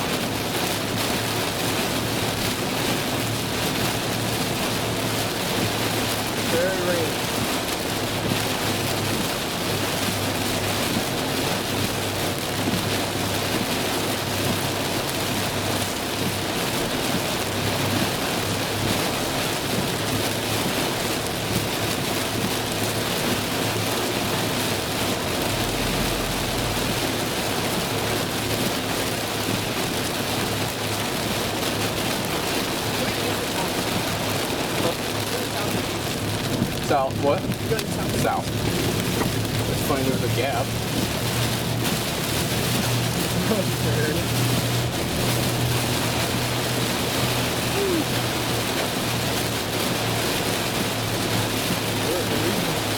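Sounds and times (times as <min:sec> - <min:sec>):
heavy rain beating on a car: 0:00.0 - 0:52.9
low hum of road noise: 0:00.0 - 0:52.9.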